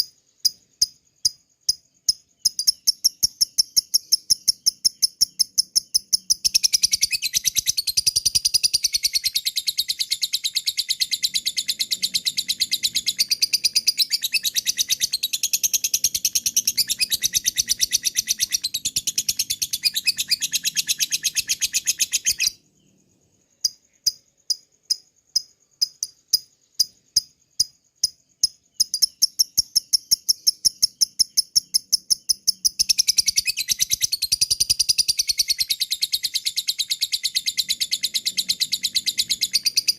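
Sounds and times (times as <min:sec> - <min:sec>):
sharp bird chirps: 0:00.0 - 0:39.9.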